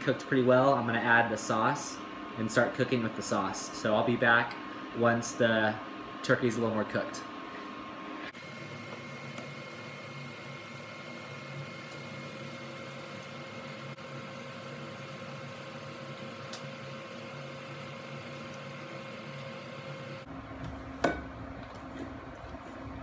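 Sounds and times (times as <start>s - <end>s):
induction cooktop fan hum: 0.0s - 23.0s.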